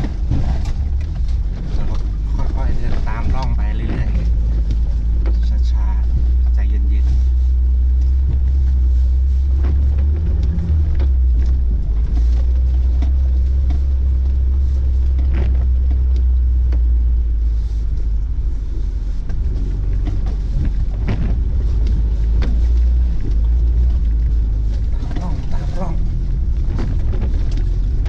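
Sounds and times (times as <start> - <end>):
car engine and road rumble: 0.0 - 28.0
knocks and rattles: 0.0 - 28.0.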